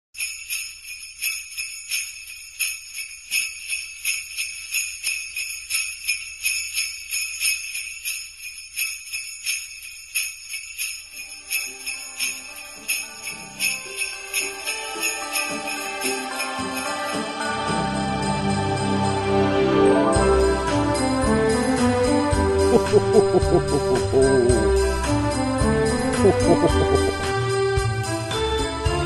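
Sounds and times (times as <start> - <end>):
sleigh bells jingling: 0.2 - 17.3, 20.9 - 28.6.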